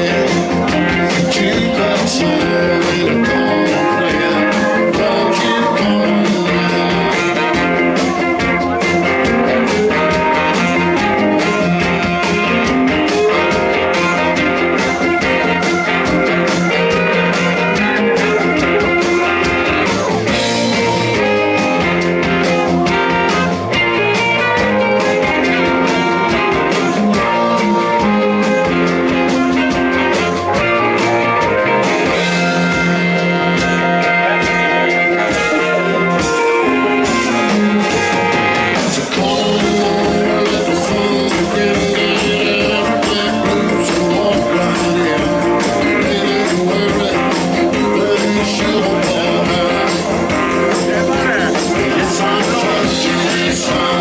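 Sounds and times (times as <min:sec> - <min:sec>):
electric guitar: 0:00.0 - 0:54.0
live blues-rock band: 0:00.0 - 0:54.0
steady drum beat: 0:00.0 - 0:54.0.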